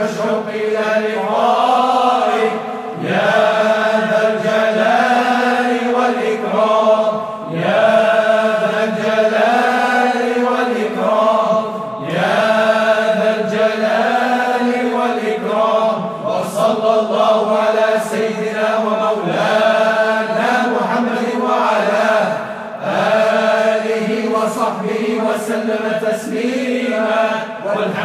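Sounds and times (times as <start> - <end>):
melodic chanting: 0.0 - 28.0.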